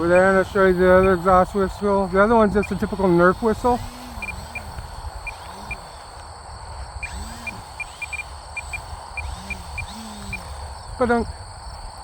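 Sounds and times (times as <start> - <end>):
insects chirping in high pips: 0.0 - 12.0
steady high insect hum: 0.0 - 12.0
wind rumbling on microphone: 0.0 - 12.0.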